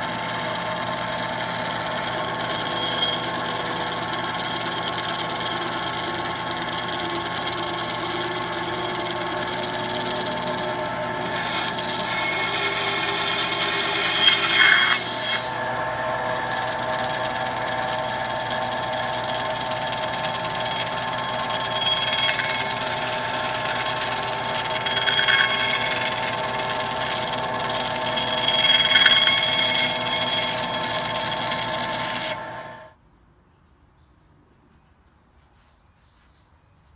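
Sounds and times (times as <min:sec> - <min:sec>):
band saw cutting foam: 0:00.0 - 0:32.9.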